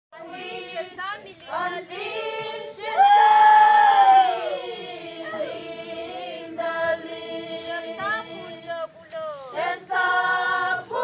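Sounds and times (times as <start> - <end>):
voices singing together: 0.1 - 11.0.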